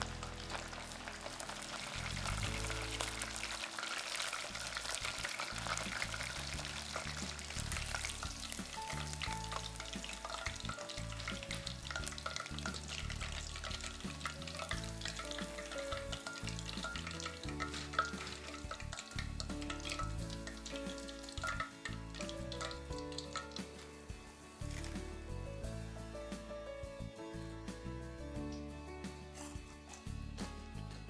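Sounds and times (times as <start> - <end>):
meat deep-frying in hot oil: 0.0 - 25.8
background music: 0.0 - 31.0.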